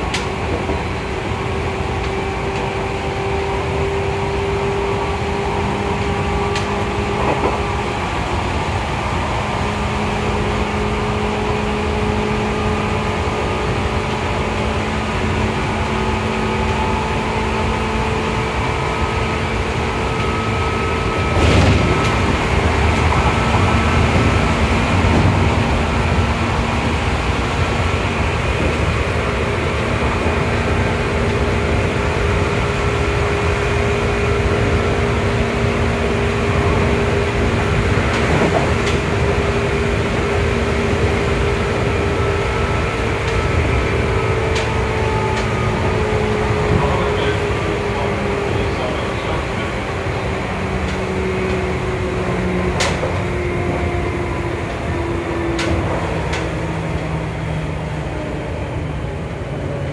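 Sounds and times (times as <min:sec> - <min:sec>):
steady whining tones: 0:00.0 - 0:59.9
train wheels rumbling on rail: 0:00.0 - 0:59.9.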